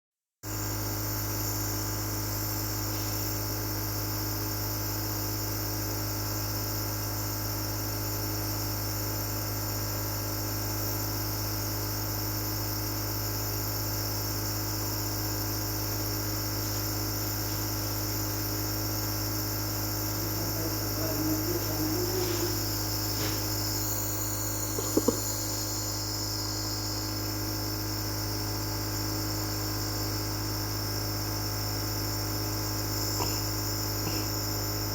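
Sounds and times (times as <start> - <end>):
nebulizer humming and hissing: 0.5 - 34.9.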